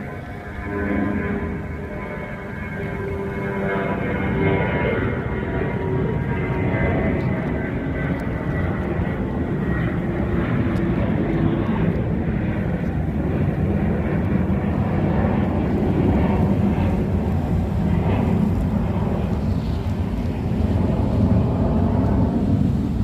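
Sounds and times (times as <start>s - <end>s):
airplane rumbling overhead: 0.0s - 23.0s
faint engine whine: 0.0s - 23.0s.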